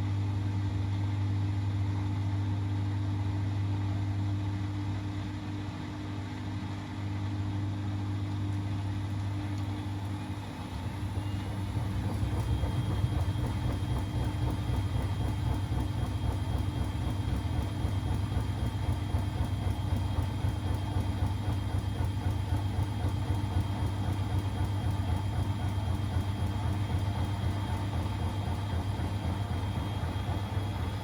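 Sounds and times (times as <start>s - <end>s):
washing machine humming and rumbling: 0.0s - 31.0s.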